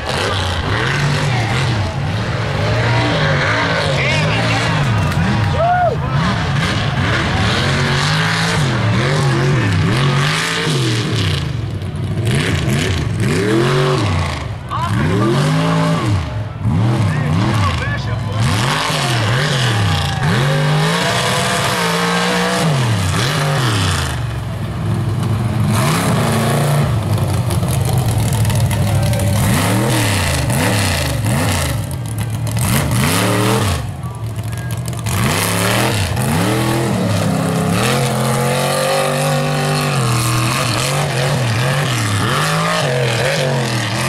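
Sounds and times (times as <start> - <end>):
truck engine revving hard: 0.0 - 44.0.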